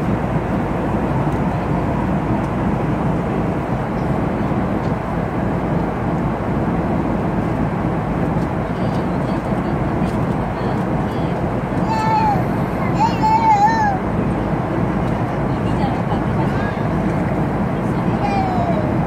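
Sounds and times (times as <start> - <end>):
airliner cabin engine rush: 0.0 - 19.0.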